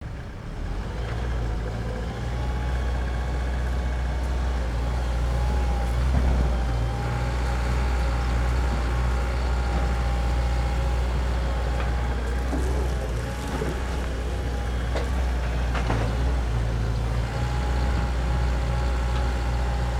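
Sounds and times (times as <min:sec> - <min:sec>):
excavator engine hum: 0:00.0 - 0:19.9.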